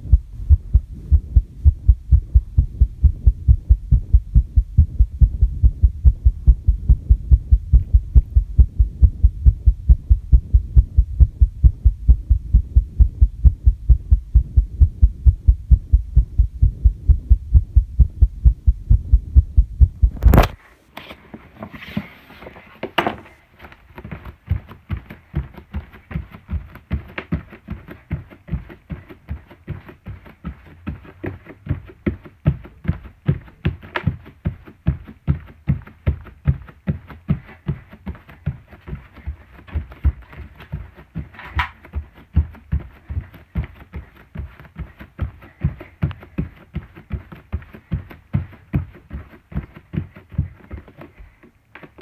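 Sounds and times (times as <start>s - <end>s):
human heartbeat thudding: 0.0s - 20.6s, 23.8s - 52.0s
rustling: 0.0s - 52.0s.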